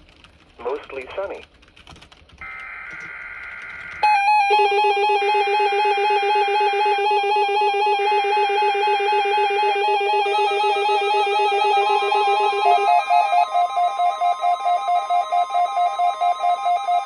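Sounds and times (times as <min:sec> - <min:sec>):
electronic alert tones: 0:02.4 - 0:17.0.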